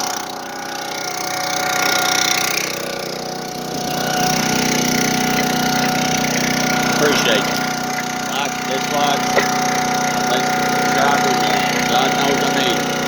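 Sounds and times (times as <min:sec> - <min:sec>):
chainsaw engine running: 0:00.0 - 0:13.0.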